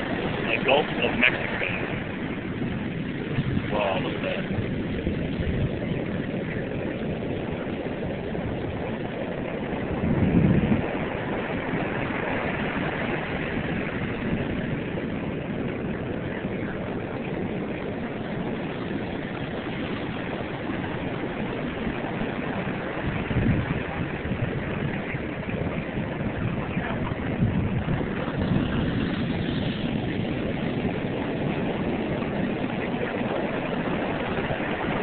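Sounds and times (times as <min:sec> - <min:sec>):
heavy surf breaking: 0:00.0 - 0:35.0.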